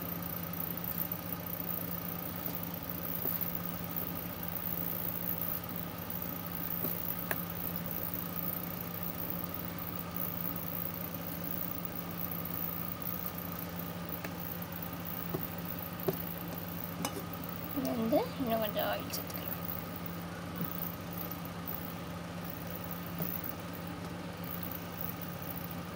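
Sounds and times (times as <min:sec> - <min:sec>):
low mechanical hum: 0:00.0 - 0:25.9.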